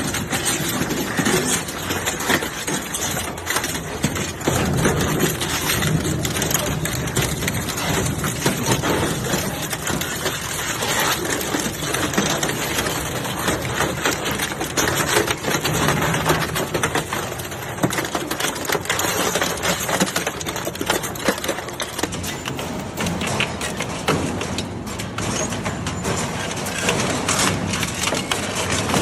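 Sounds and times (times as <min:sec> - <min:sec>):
metal shredder crunching and clanking: 0:00.0 - 0:29.0.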